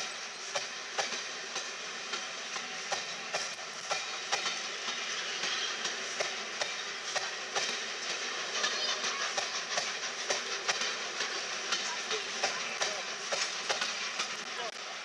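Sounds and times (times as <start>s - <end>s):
train rumbling: 0.0s - 15.0s
wheels clicking over rail joints: 0.0s - 15.0s.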